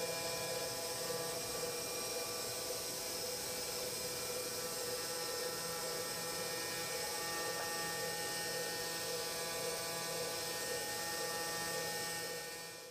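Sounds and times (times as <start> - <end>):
milling spindle whine: 0.0 - 12.9.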